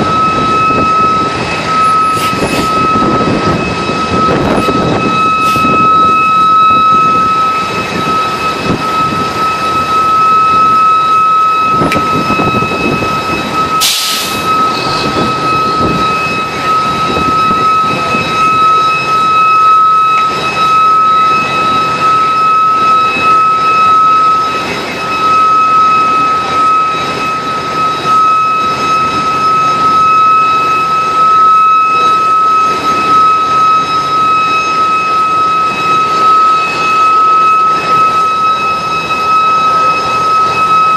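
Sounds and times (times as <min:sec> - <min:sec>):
diesel engines running hard: 0:00.0 - 0:40.9
fire engine pumping water: 0:00.0 - 0:40.9
high-pitched whine: 0:00.0 - 0:40.9.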